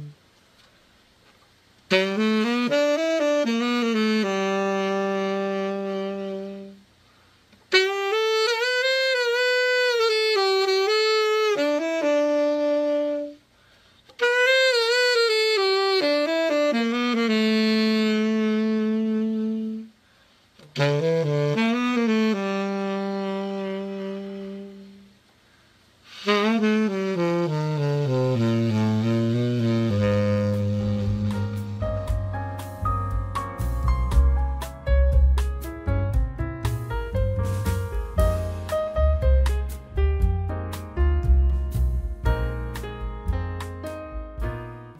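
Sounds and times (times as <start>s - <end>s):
tenor saxophone playing: 0.0s - 0.3s, 1.9s - 7.0s, 7.7s - 25.3s, 26.0s - 35.4s, 37.1s - 40.8s.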